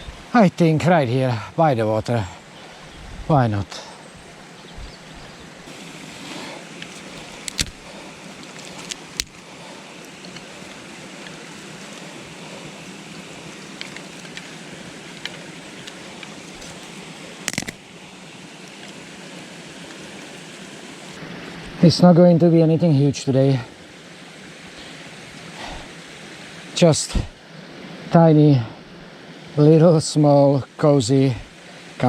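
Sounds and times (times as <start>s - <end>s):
stream rushing: 0.0s - 32.0s.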